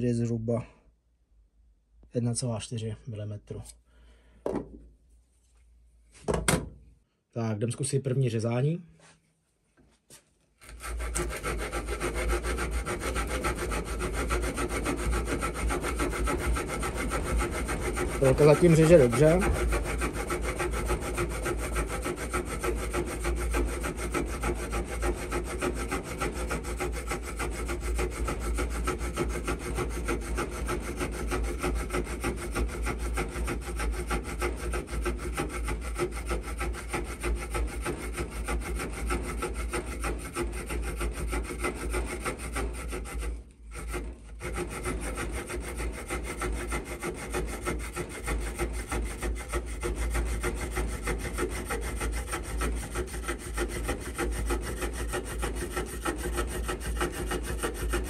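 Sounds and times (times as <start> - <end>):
saw blade rasping through wood: 10.6 - 58.0.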